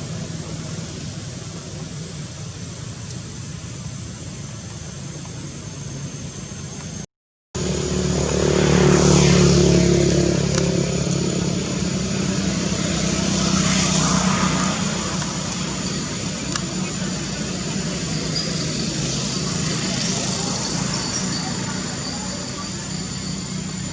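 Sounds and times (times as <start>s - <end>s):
vehicle engine humming: 0.0s - 23.9s.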